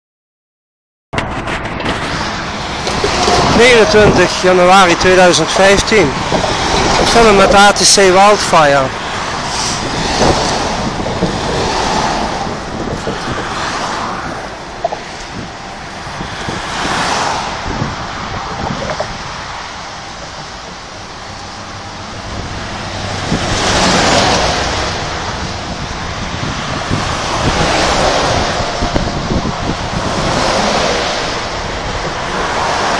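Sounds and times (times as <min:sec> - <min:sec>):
wind buffeting microphone: 0:01.2 - 0:32.9.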